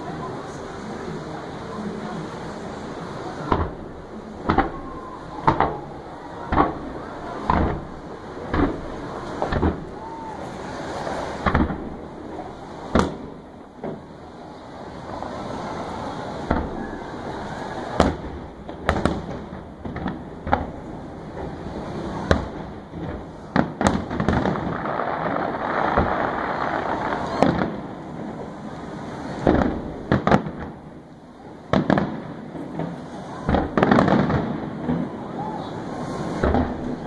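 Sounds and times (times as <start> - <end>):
fireworks bangs: 0.0 - 37.0
steady background noise: 0.0 - 37.0.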